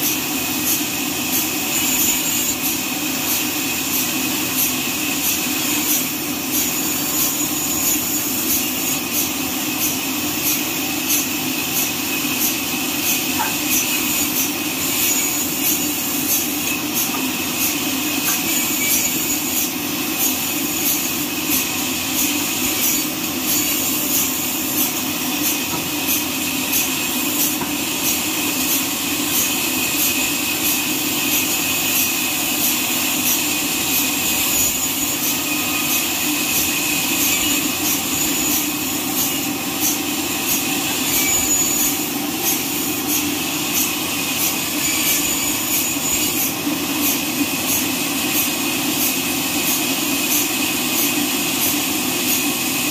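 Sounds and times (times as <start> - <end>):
band sawmill cutting log: 0.0 - 52.9.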